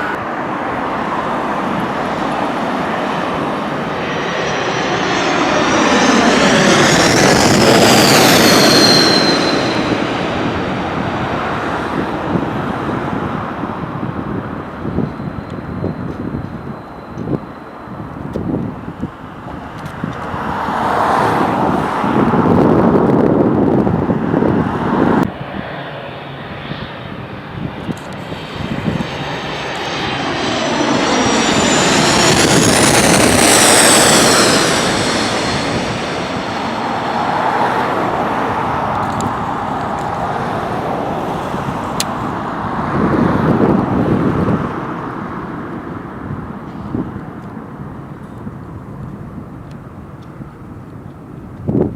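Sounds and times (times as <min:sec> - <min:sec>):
high engine whine: 0:00.0 - 0:51.9
jet airliner passing: 0:00.0 - 0:51.9.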